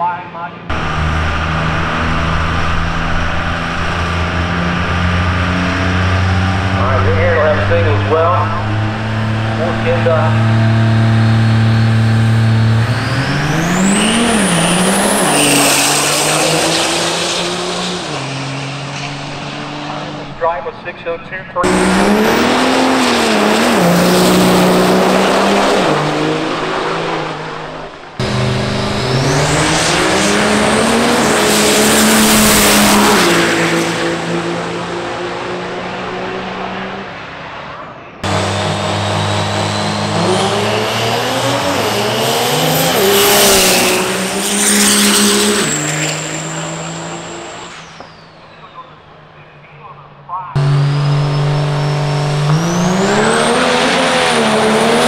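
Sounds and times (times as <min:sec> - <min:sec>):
diesel truck engine at full power: 0:00.0 - 0:55.0.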